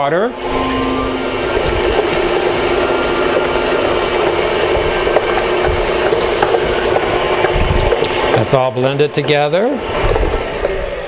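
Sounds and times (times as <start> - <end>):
electric mixer running: 0.0 - 11.0.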